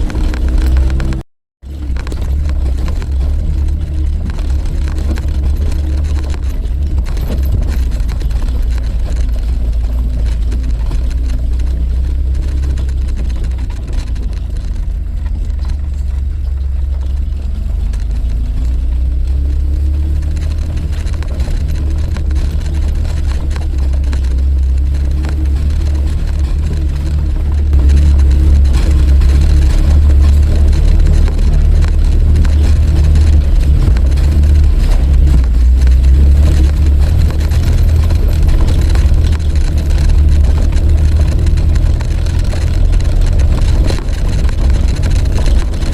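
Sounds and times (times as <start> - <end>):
car engine and road rumble: 0.0 - 45.9.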